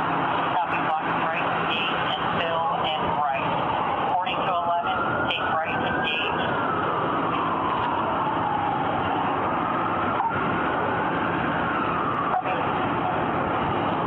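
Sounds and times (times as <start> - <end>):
noisy background: 0.0 - 14.0
police siren wailing: 0.0 - 14.0.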